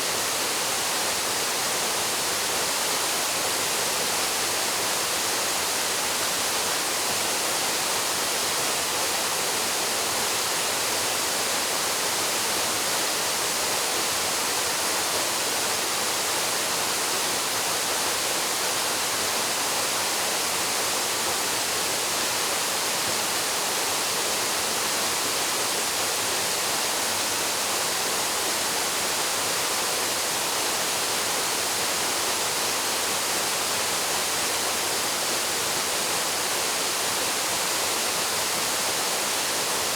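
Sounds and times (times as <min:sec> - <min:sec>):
waterfall rushing into pool: 0:00.0 - 0:39.9.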